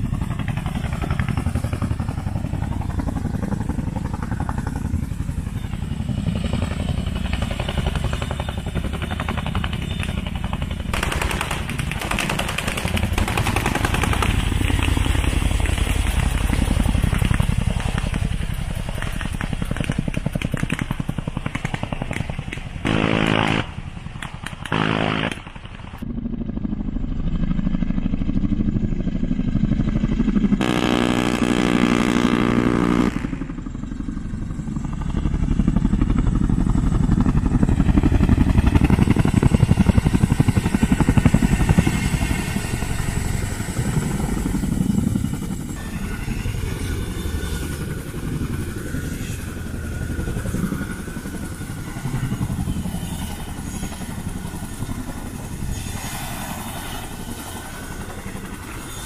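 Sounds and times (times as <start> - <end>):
helicopter rotors chopping: 0.0 - 59.0.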